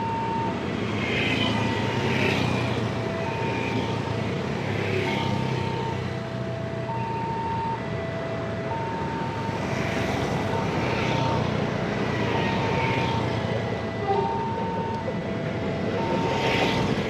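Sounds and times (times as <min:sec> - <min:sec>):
engines and traffic rumble: 0:00.0 - 0:17.0.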